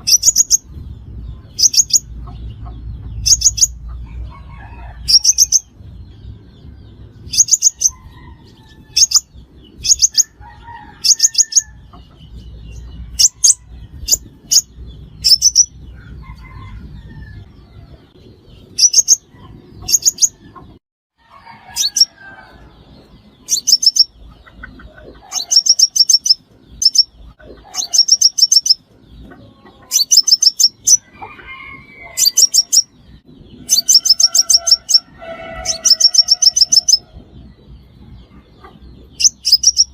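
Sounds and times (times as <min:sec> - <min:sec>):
bird twittering trills: 0:00.0 - 0:17.4, 0:18.2 - 0:20.6, 0:21.6 - 0:37.6, 0:38.2 - 0:39.9.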